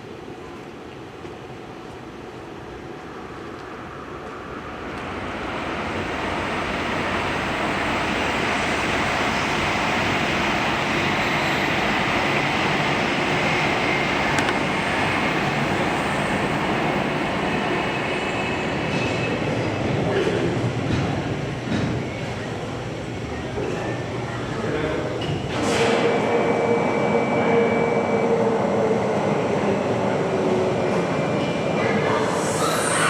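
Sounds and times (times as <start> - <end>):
steam locomotive rushing: 3.9 - 24.8, 25.4 - 33.0.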